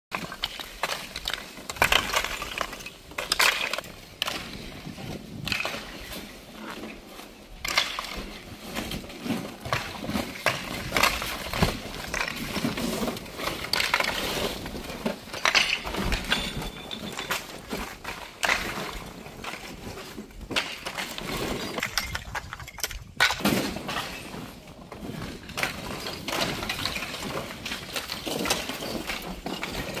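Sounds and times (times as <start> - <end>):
stone slabs clattering: 0.1 - 6.9, 7.5 - 30.0.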